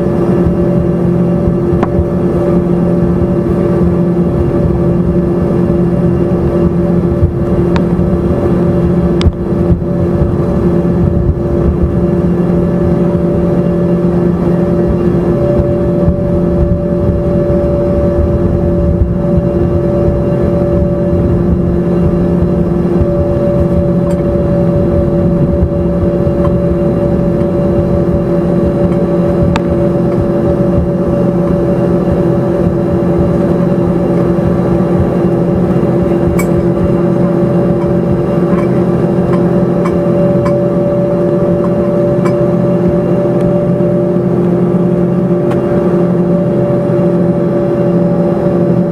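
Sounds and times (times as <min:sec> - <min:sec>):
jet engines roaring in cabin: 0:00.0 - 0:48.9.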